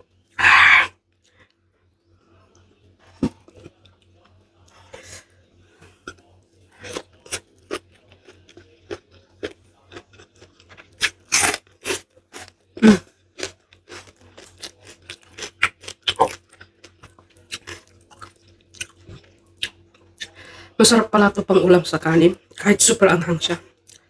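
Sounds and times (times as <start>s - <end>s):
chewing and crunching food: 0.4s - 20.5s, 22.3s - 24.0s.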